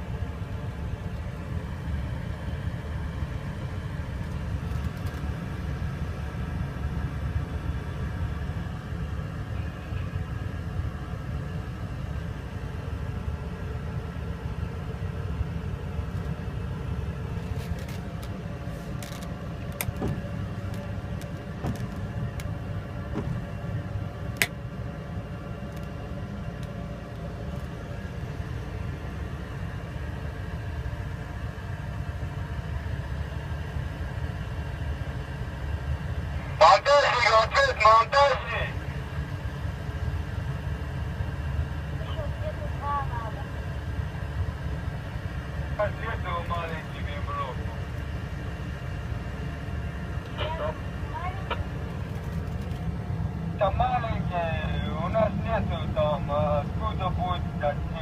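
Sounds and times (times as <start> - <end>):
engine running with low rumble: 0.0 - 58.0.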